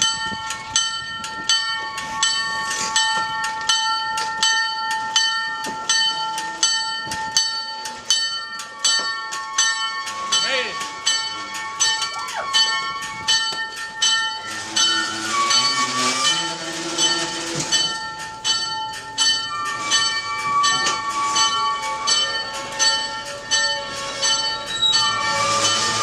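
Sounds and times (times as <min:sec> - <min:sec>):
train wheels squealing on rails: 0:00.0 - 0:05.0, 0:08.6 - 0:26.0
locomotive bell ringing: 0:00.0 - 0:26.0.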